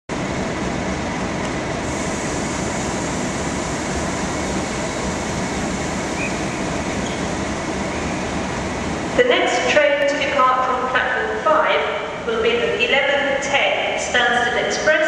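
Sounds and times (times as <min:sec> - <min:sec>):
train rumble and hum: 0:00.1 - 0:15.0
faint steady whine: 0:01.8 - 0:14.7.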